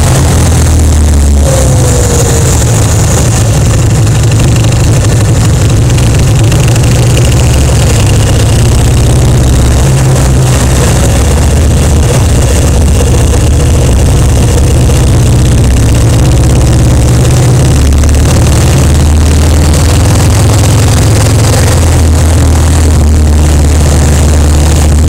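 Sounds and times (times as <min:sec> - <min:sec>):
motorcycle engine droning: 0:00.0 - 0:25.0.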